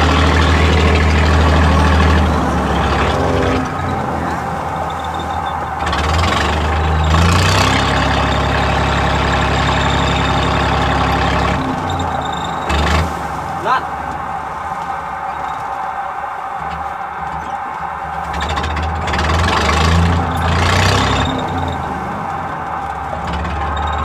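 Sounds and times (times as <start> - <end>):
boat diesel engine drone: 0.0 - 24.0
choppy waves: 0.0 - 24.0.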